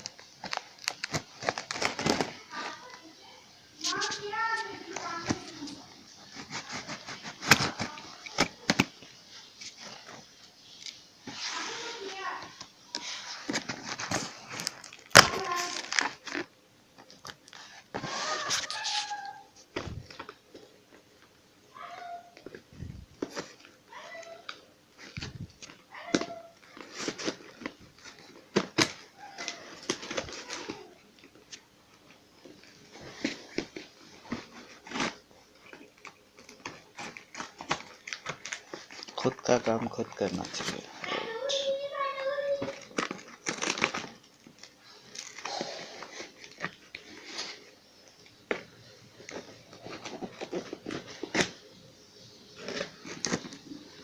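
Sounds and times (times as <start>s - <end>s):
cardboard and plastic packaging rustling: 0.0s - 54.0s.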